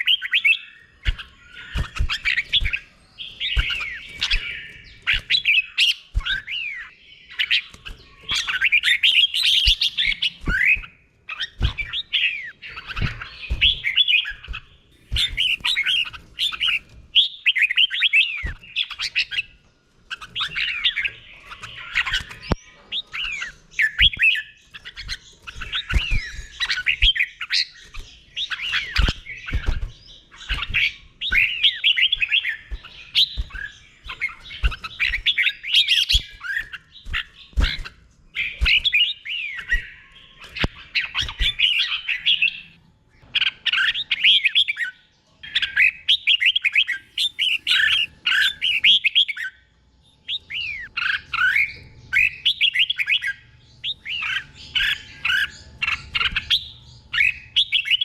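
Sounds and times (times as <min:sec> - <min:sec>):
bird warbling song: 0:00.0 - 0:58.0.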